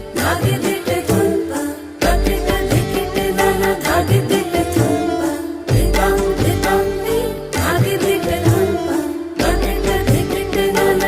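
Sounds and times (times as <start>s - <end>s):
indian-style song with singing: 0.0s - 11.0s.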